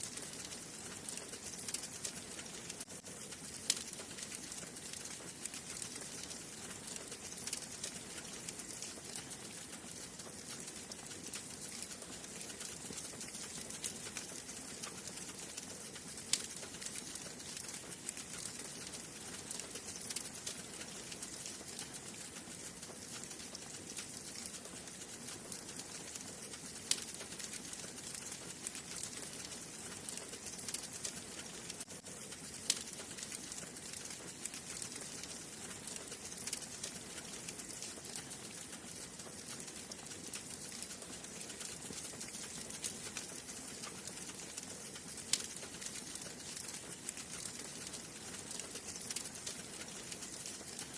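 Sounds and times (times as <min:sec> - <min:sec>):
fire crackling in fireplace: 0:00.0 - 0:50.9.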